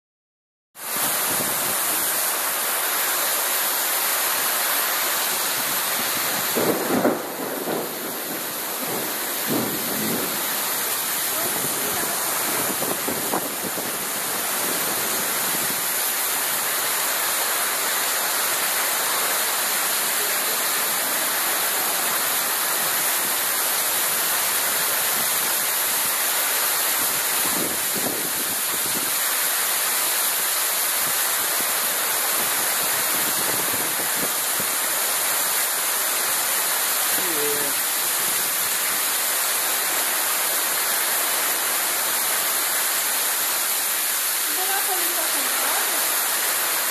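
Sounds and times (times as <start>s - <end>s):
heavy rain splashing on concrete: 0.8s - 46.9s.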